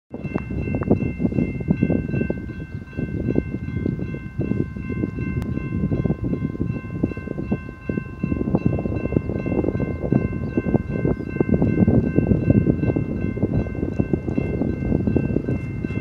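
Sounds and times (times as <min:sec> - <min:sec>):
railroad crossing bell ringing: 0:00.1 - 0:16.0
wind rumbling on microphone: 0:00.1 - 0:16.0.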